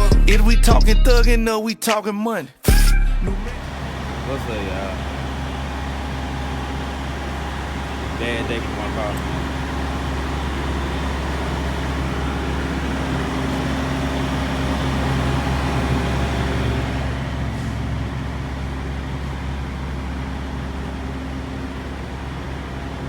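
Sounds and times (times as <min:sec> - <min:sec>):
low engine hum: 0:00.0 - 0:01.5, 0:02.7 - 0:23.0
motor vehicle passing: 0:02.8 - 0:23.0.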